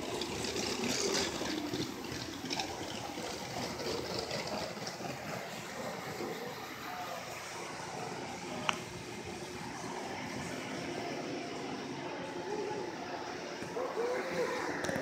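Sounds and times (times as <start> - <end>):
distant chatter: 0.0 - 15.0.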